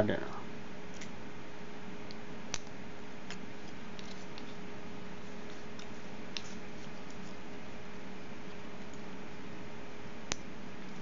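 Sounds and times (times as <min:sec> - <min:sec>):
background hiss with low hum: 0:00.0 - 0:11.0.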